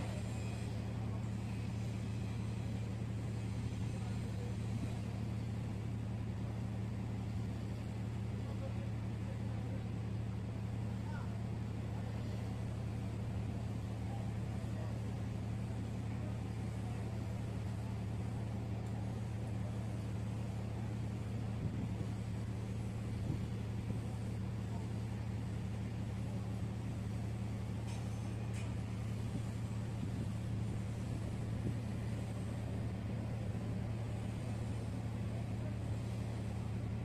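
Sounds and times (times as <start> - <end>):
ship diesel engines droning: 0.0 - 37.0.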